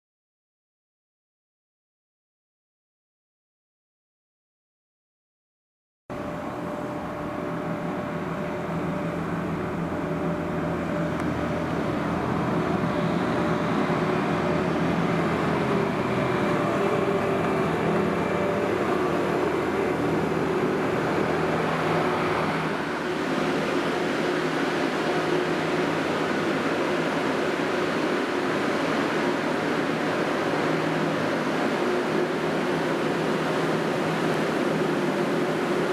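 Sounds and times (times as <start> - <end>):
diesel engine running: 6.1 - 35.9.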